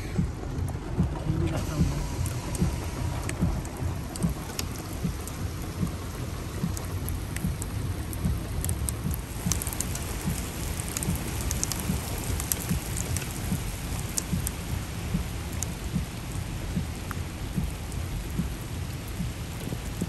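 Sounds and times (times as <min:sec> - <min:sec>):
heavy rain on pavement: 0:00.0 - 0:20.0
raindrops ticking: 0:00.0 - 0:20.0.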